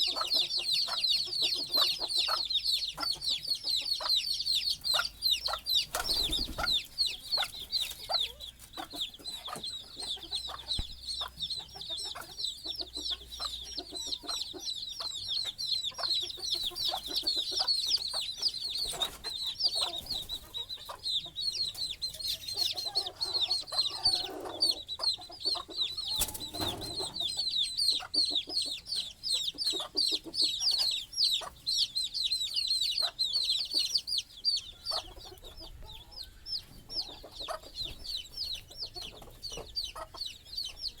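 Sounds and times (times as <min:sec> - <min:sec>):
chicks peeping: 0:00.0 - 0:41.0
hen clucking: 0:00.0 - 0:41.0.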